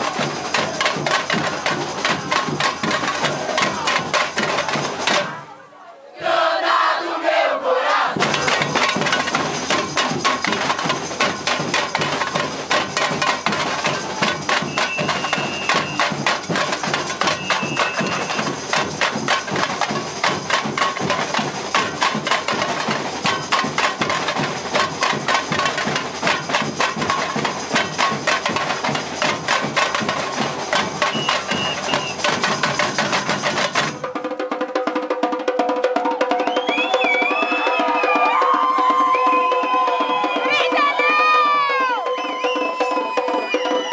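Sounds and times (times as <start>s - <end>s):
samba percussion drumming: 0.0s - 5.6s, 8.0s - 43.9s.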